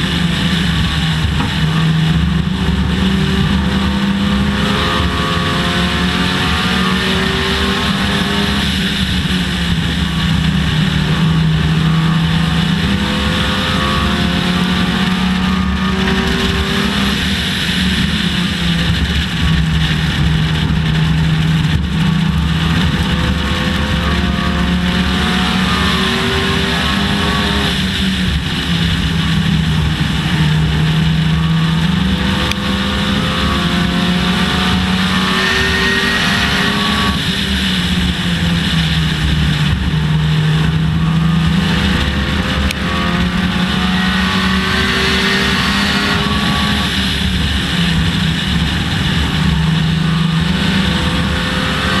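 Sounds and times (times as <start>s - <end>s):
race car engine revving: 0.0s - 52.0s
road and wind noise: 0.0s - 52.0s.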